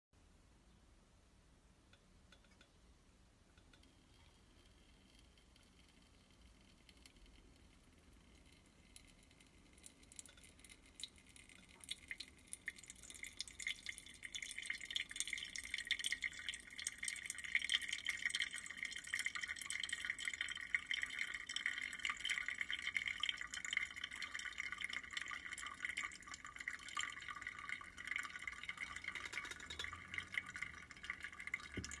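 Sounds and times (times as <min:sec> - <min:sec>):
coffee dripping into vessel: 0:01.9 - 0:32.0.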